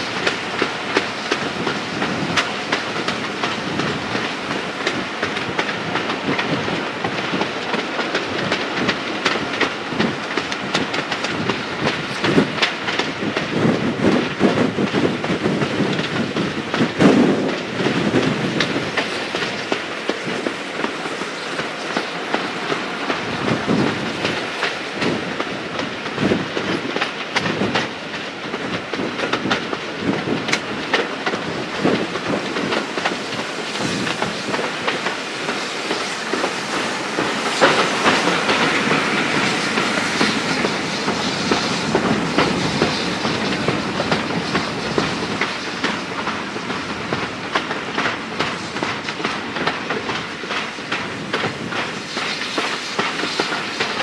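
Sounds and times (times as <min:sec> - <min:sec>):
train coach rumbling: 0:00.0 - 0:54.0
wheels clacking over rail joints: 0:00.0 - 0:54.0.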